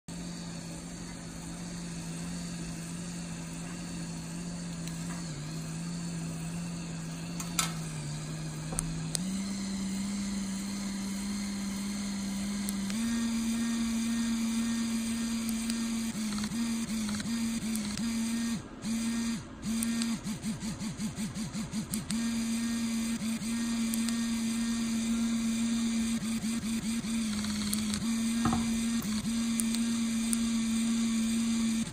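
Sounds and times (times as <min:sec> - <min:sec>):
small vibrating motor buzzing: 0:00.1 - 0:31.9.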